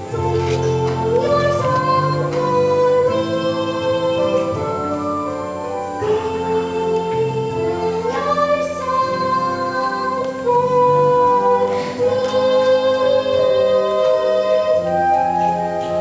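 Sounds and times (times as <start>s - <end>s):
musical accompaniment: 0.0s - 16.0s
person singing: 0.0s - 16.0s.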